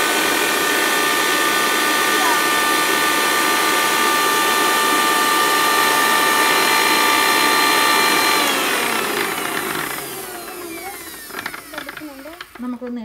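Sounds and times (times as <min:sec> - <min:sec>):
mixer grinder whine: 0:00.0 - 0:13.0.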